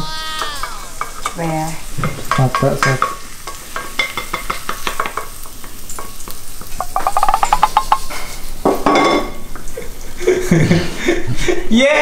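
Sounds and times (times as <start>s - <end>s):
egg sizzling in a frying pan: 0.0s - 12.0s.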